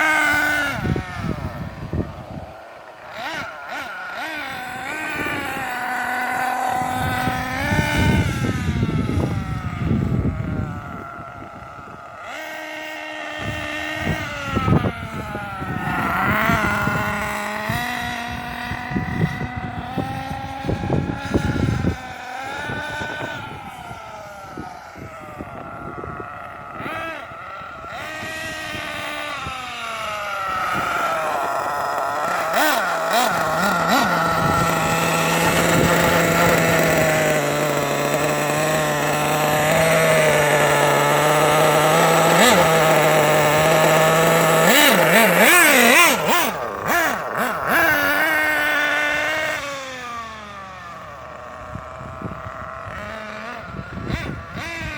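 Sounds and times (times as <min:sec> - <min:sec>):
wind rumble on microphone: 0:00.0 - 0:02.5, 0:04.4 - 0:12.6, 0:13.3 - 0:50.2, 0:51.3 - 0:54.9
rc truck motor revving: 0:00.0 - 0:54.9.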